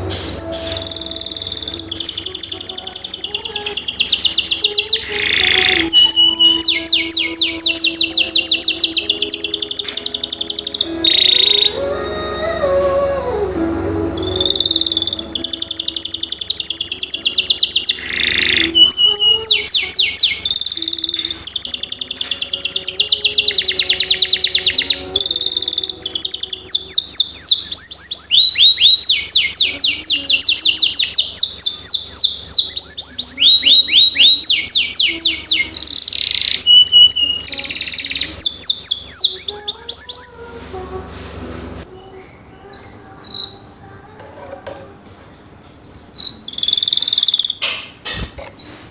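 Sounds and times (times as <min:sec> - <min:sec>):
canary singing trills: 0:00.0 - 0:40.7, 0:41.8 - 0:44.7, 0:45.4 - 0:48.9.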